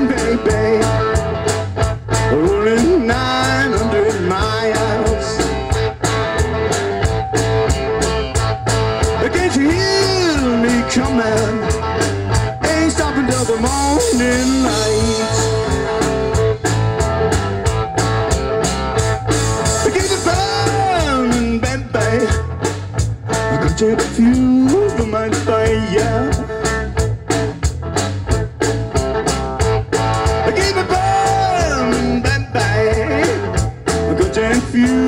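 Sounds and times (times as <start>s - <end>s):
bending electric guitar notes: 0.0s - 35.0s
steady drum beat: 0.0s - 35.0s.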